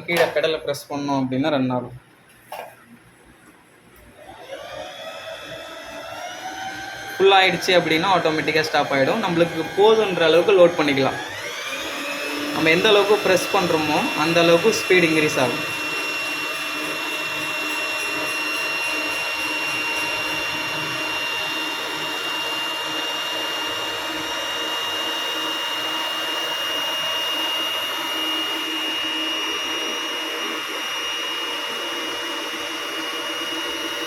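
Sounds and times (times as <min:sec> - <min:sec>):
sewing machine motor whirring: 0:04.2 - 0:34.0.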